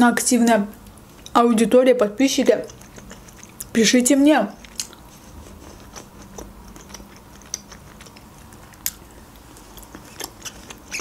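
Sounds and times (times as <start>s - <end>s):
soft chewing and mouth sounds: 0.7s - 1.4s, 2.4s - 11.0s.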